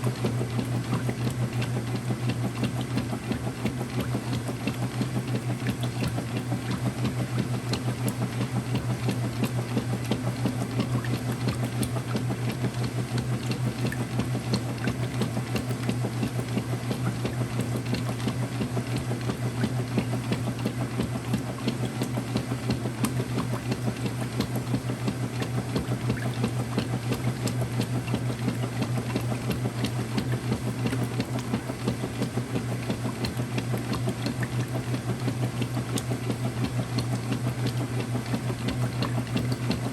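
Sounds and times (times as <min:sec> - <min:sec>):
washing machine motor pulsing hum: 0:00.0 - 0:39.9.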